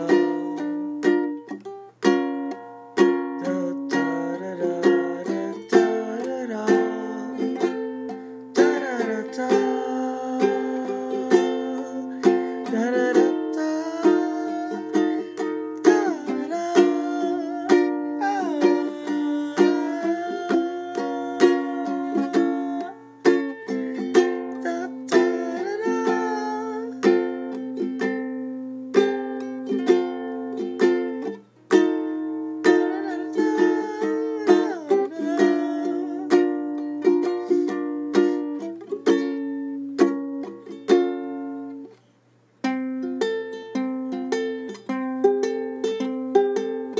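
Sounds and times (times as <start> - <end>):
plucked string melody: 0.0 - 46.9.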